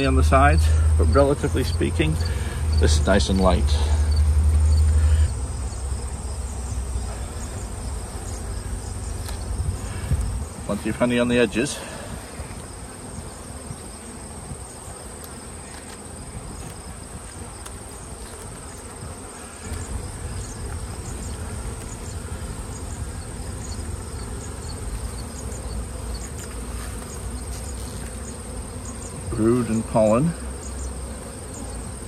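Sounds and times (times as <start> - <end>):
honey bees buzzing: 0.0 - 32.0.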